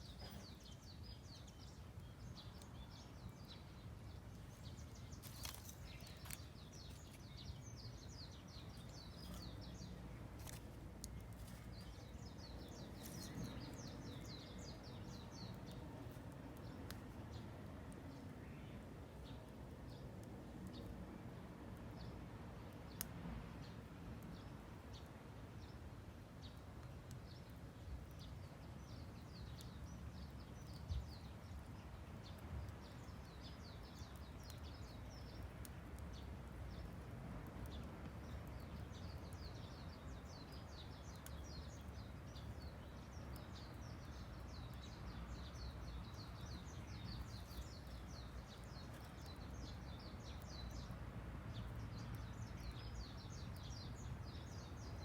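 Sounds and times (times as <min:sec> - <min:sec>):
faint low outdoor rumble: 0:00.0 - 0:55.0
small birds chirping: 0:00.0 - 0:55.0.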